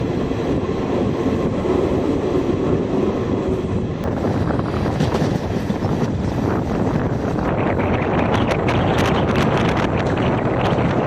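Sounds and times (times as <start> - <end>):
train rumbling along track: 0.0 - 11.0.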